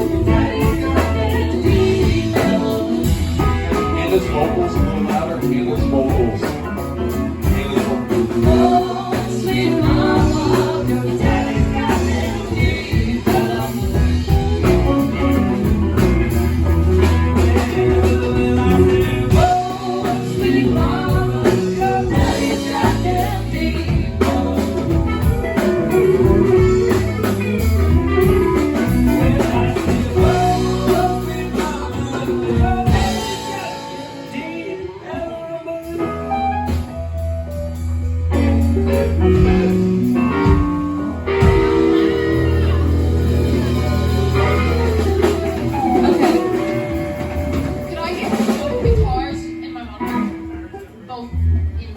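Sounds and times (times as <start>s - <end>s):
person singing: 0.0s - 37.2s, 38.3s - 49.0s
live rock band: 0.0s - 51.9s.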